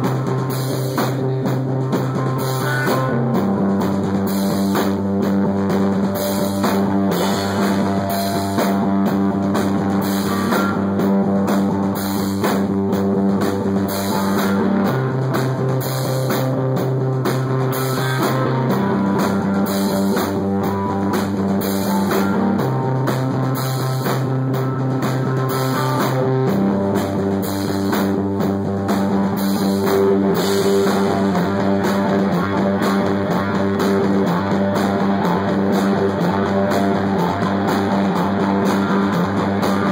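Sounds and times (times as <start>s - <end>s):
drum kit: 0.0s - 39.9s
heavy electric guitar riff: 0.0s - 39.9s.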